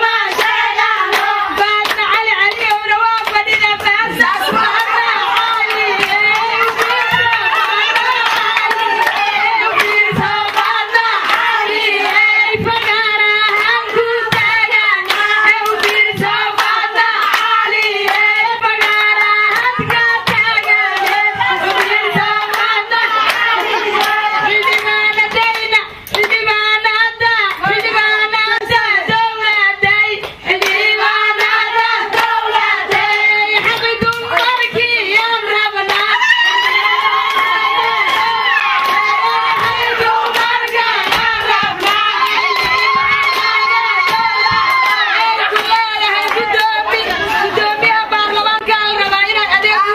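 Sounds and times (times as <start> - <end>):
rhythmic handclapping: 0.0 - 49.9
women singing: 0.0 - 49.9.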